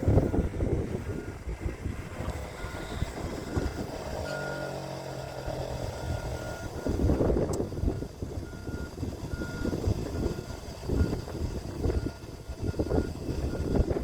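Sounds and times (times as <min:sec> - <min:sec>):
wind buffeting microphone: 0:00.0 - 0:04.5, 0:05.4 - 0:14.0.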